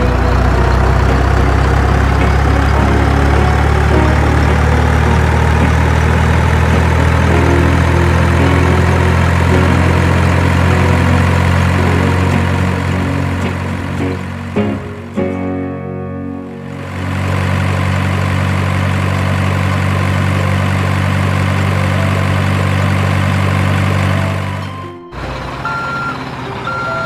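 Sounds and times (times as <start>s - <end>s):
heavy vehicle engine idling: 0.0s - 15.3s, 16.4s - 27.0s.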